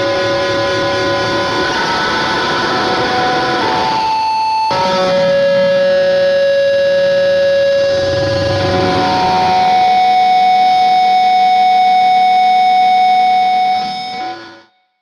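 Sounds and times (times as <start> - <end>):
distorted electric guitar note: 0.0 - 14.7.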